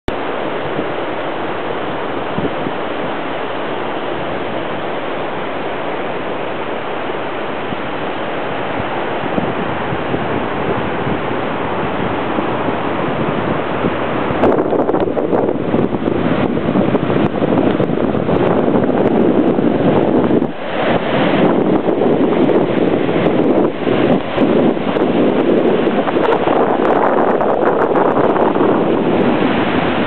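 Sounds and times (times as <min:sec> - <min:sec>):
wind: 0:00.0 - 0:30.0
surf rushing: 0:00.1 - 0:30.0
wind buffeting microphone: 0:00.1 - 0:30.0.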